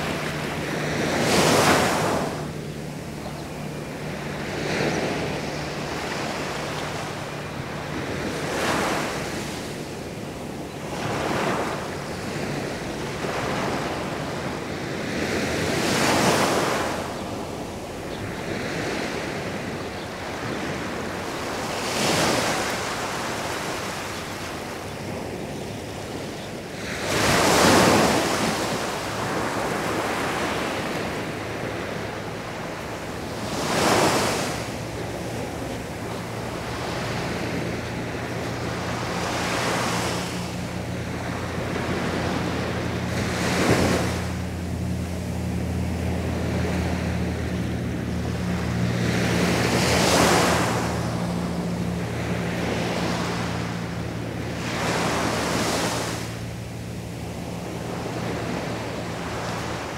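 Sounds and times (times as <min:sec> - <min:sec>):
wash of surf: 0:00.0 - 0:59.9
waves breaking on shore: 0:00.0 - 0:59.9.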